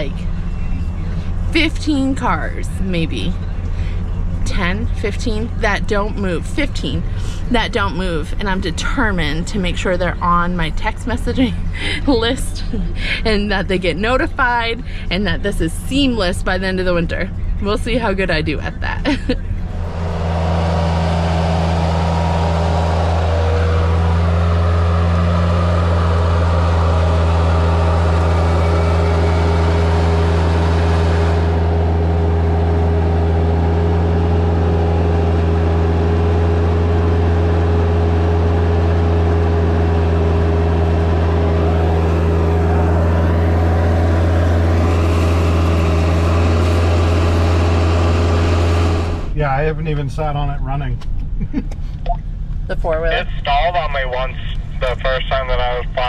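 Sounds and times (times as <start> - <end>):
vehicle engine droning: 0.0 - 56.0.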